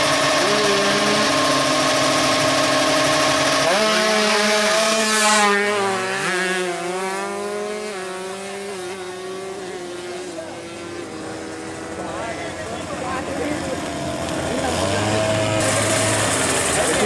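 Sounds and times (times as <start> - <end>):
two-stroke bike engines revving: 0.0 - 17.0.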